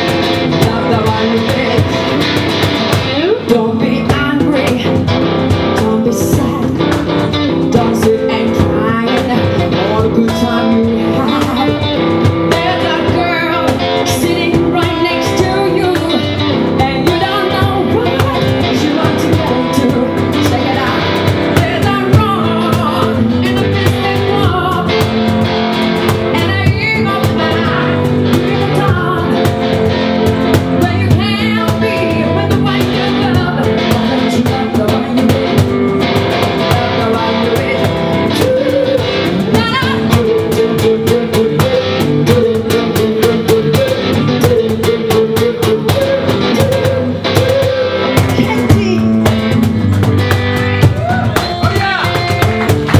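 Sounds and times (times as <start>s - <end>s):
woman singing: 0.0s - 50.3s
cajon beating rhythm: 0.0s - 52.9s
instrumental accompaniment: 0.0s - 52.9s.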